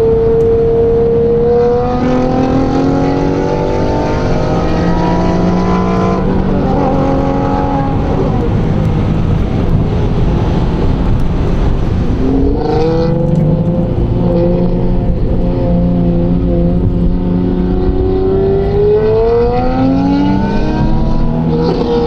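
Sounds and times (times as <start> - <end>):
road and wind rush: 0.0 - 22.0
sports car engine accelerating: 0.0 - 22.0.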